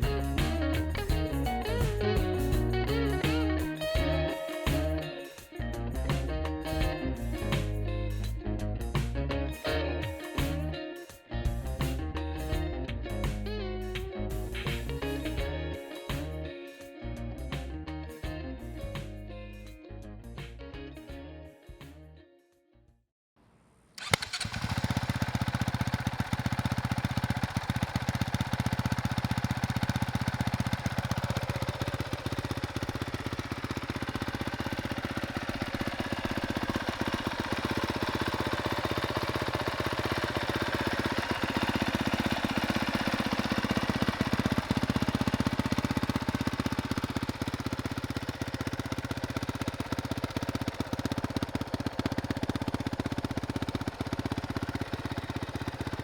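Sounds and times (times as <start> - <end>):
motorbike engine starting and idling: 0.0 - 10.8, 11.4 - 16.5, 24.0 - 56.0.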